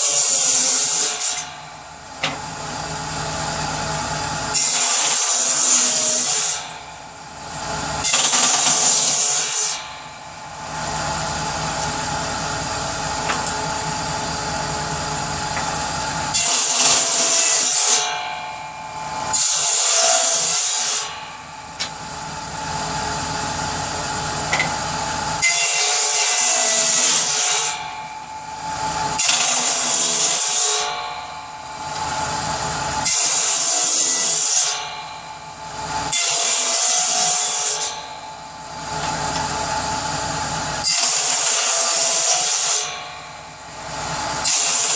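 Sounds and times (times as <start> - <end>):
power saw cutting wood: 0.0 - 44.9.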